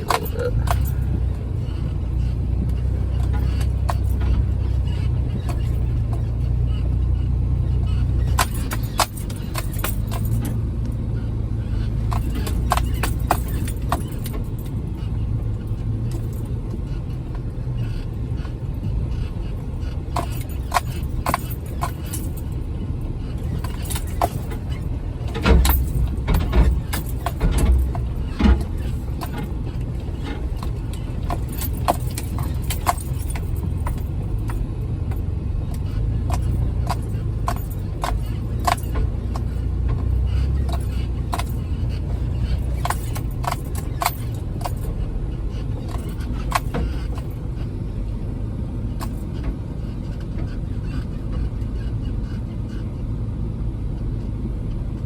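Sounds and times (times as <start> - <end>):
rattles and knocks: 0.0 - 52.8
car engine running: 0.0 - 55.0.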